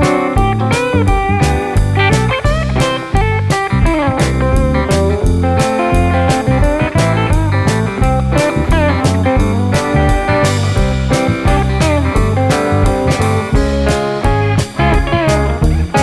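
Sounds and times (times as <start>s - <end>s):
electric guitar lead lines: 0.0s - 16.0s
steady drum beat: 0.0s - 16.0s.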